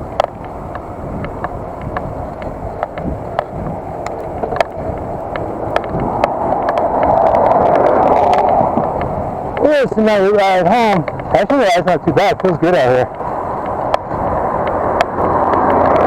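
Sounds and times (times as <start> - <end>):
bicycle clicks and rattles: 0.0 - 16.0
wind and tyre rumble: 0.0 - 16.0.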